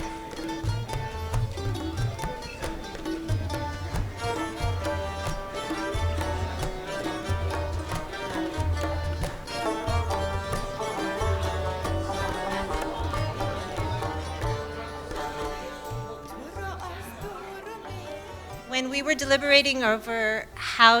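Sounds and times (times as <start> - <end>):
plucked strings melody: 0.0 - 20.9.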